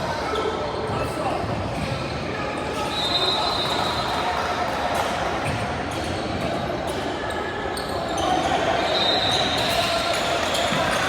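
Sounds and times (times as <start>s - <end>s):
echoing crowd noise: 0.0s - 11.0s.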